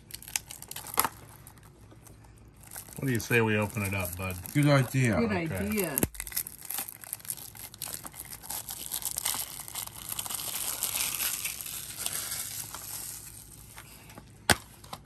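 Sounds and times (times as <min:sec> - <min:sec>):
plastic wrap crinkling: 0:00.0 - 0:15.0.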